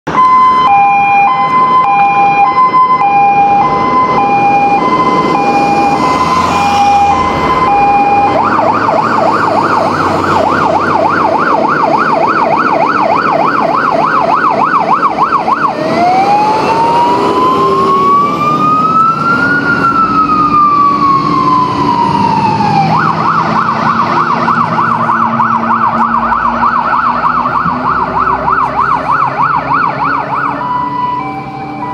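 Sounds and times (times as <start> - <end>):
fire engine siren: 0.1 - 31.9.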